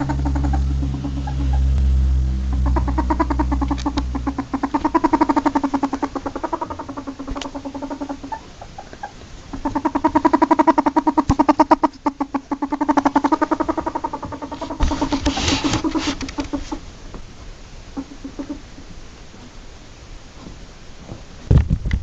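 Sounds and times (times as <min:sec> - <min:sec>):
ferret dooking: 0:00.0 - 0:16.9, 0:17.9 - 0:18.9.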